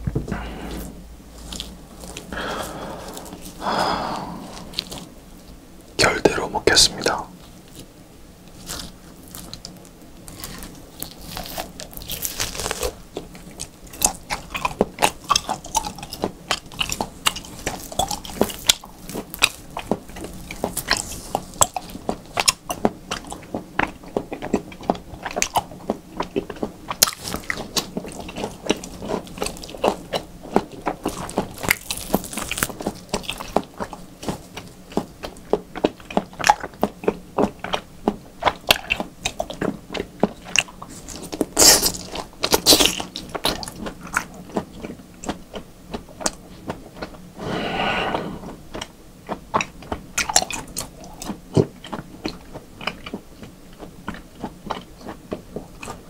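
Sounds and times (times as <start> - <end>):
wet chewing and mouth clicks: 8.5 - 47.2, 48.6 - 56.0.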